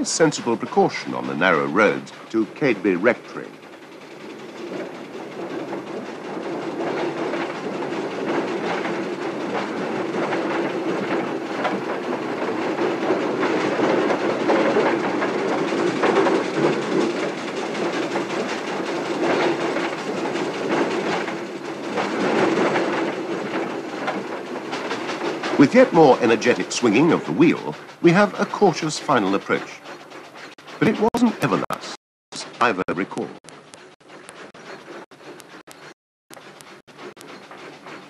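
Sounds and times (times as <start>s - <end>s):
rattling and clanking gears: 0.0s - 38.0s
steam engine running: 0.0s - 38.0s.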